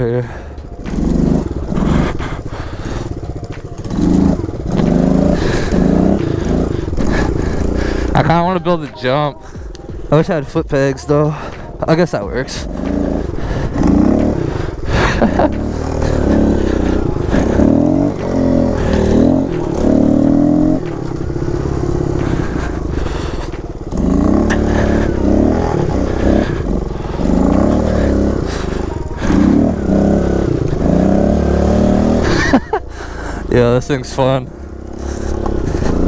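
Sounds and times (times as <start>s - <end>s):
small motorbike engine revving: 0.0s - 36.0s.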